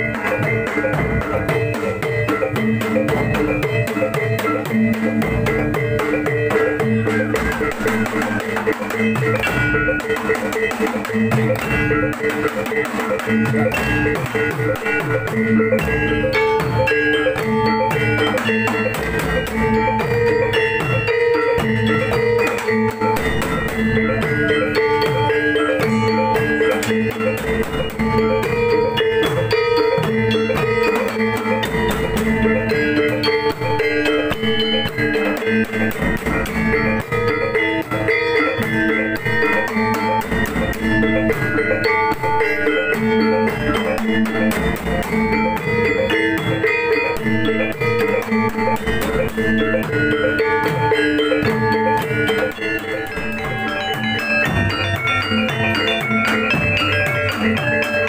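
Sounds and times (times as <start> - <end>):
drums: 0.0 - 58.0
metallophones: 0.0 - 58.0.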